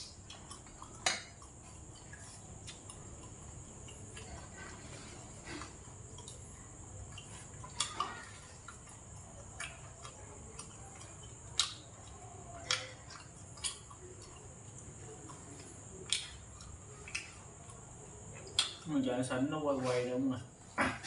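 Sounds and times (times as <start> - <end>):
person chewing food: 0.0 - 19.4.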